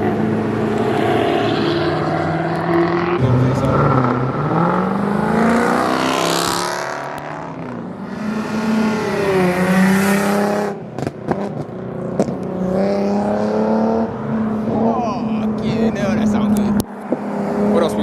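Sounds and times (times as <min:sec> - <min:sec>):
cars revving and accelerating past: 0:00.0 - 0:18.0.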